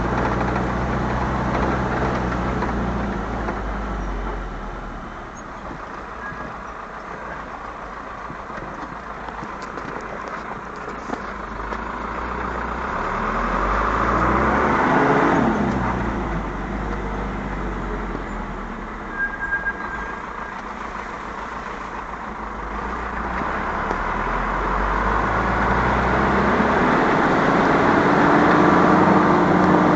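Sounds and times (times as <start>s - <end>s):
vehicle engine running: 0.0s - 29.9s.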